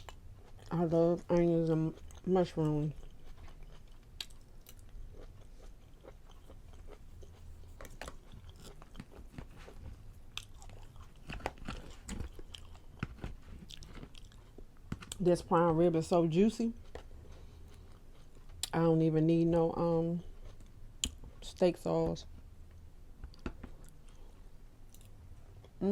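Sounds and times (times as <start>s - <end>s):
person chewing food: 0.0s - 15.2s, 16.8s - 18.7s, 20.2s - 21.4s, 22.3s - 25.8s.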